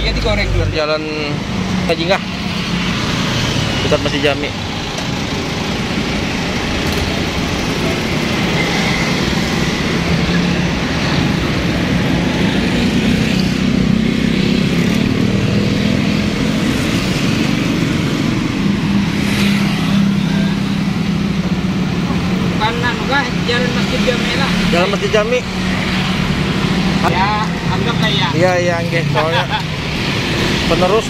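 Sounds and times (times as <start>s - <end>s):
motorcycles and cars passing: 0.0s - 31.0s.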